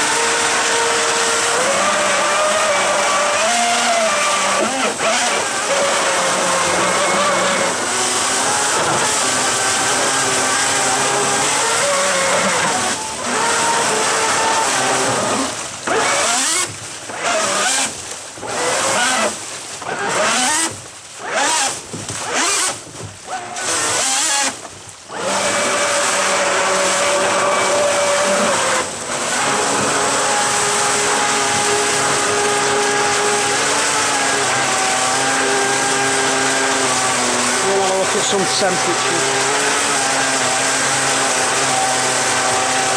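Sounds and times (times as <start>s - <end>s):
churning frothing water: 0.0s - 42.9s
electric motor whine: 0.0s - 42.9s.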